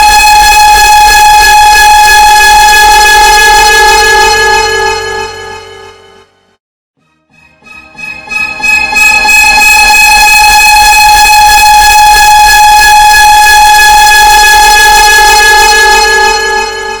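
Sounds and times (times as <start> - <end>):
loud distorted layered tone: 0.0 - 6.5, 7.1 - 17.0.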